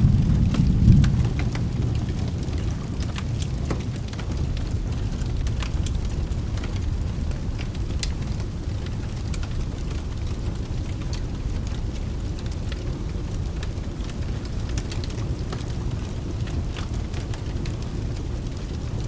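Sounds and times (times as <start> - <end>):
low thunder roll: 0.0 - 18.7
fireplace crackling and popping: 0.0 - 19.0
steady rain: 0.0 - 19.0.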